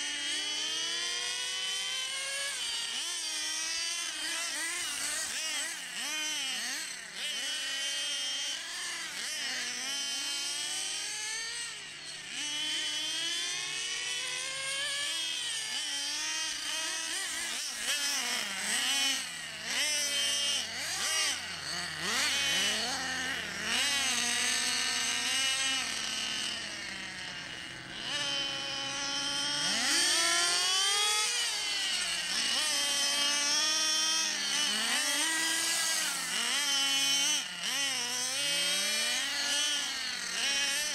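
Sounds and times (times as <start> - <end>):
model car engines whining: 0.0 - 40.9.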